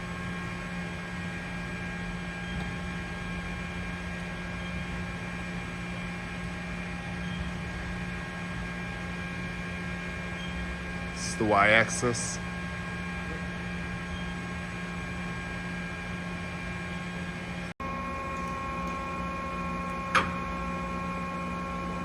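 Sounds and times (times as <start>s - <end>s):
lathe running with steady hum: 0.0s - 22.0s.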